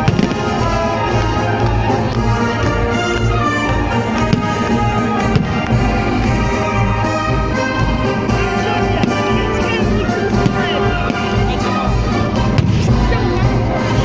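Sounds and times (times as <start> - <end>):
orchestral music with brass and strings: 0.0 - 14.0.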